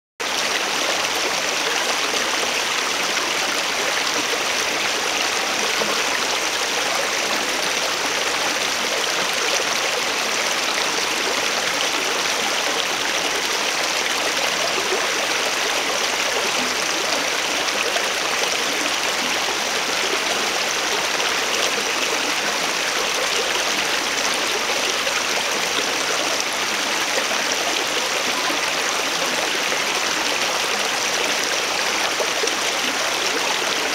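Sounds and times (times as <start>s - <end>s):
stream water running: 0.2s - 33.9s.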